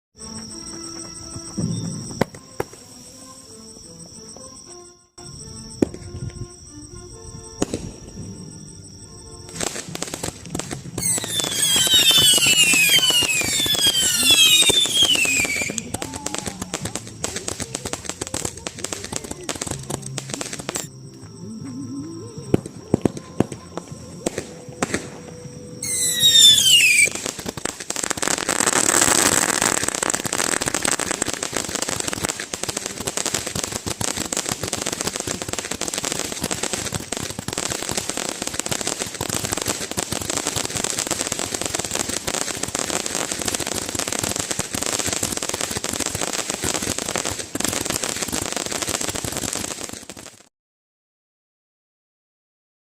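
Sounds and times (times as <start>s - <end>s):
firework falling whistle: 0.2s - 20.9s, 22.5s - 50.5s
fireworks crackling bangs: 0.4s - 3.0s, 7.6s - 8.6s, 9.4s - 21.0s, 22.5s - 50.5s.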